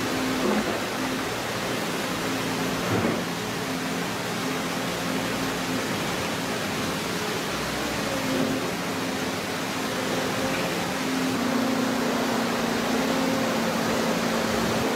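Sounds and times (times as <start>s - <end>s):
excavator engine humming: 0.0s - 14.9s.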